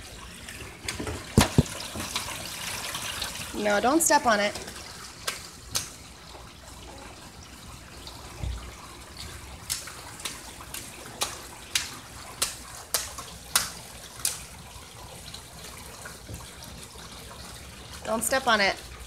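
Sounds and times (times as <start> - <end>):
rainwater trickling from downspout: 0.0 - 19.0.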